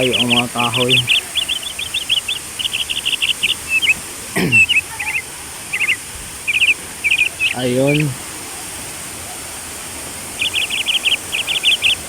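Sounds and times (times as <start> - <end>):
high rapid chirping: 0.0 - 8.2, 10.3 - 12.0
rushing water: 0.0 - 12.0.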